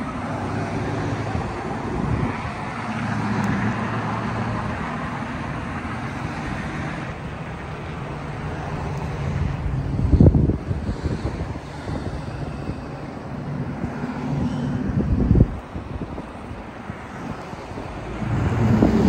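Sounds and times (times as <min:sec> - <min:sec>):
cars driving past: 0:00.0 - 0:19.0
low engine hum: 0:00.0 - 0:19.0.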